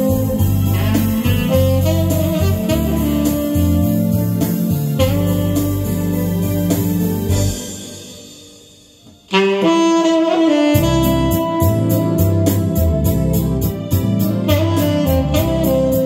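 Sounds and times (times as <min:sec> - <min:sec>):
tenor saxophone melody: 0:00.0 - 0:08.6, 0:09.2 - 0:16.0
backing track with beat: 0:00.0 - 0:16.0.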